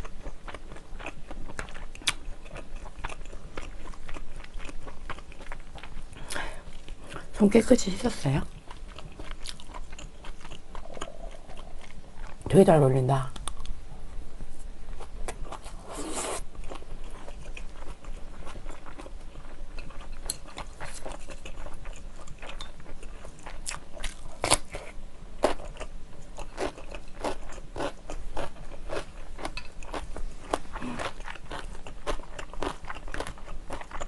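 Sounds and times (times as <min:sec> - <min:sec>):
chewing and crunching: 0:00.0 - 0:12.4, 0:14.9 - 0:34.0.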